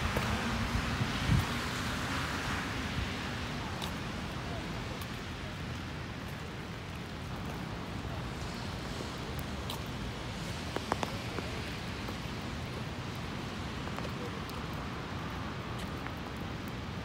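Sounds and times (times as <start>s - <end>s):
rain on a wet street: 0.0s - 17.0s.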